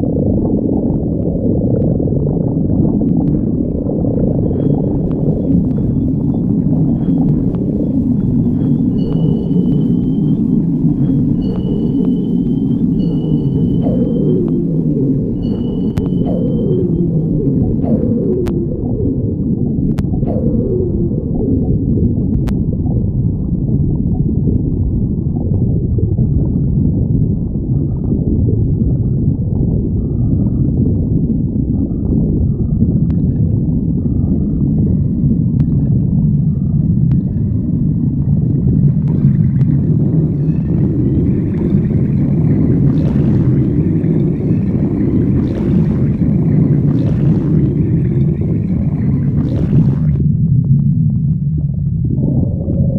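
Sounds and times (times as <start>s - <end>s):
stomach growling and gurgling: 0.0s - 52.9s.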